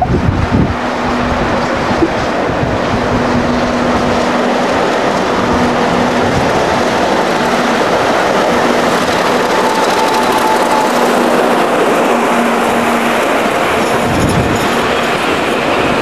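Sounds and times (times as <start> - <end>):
diesel locomotive passing: 0.0 - 16.0
wheel noise: 1.5 - 16.0.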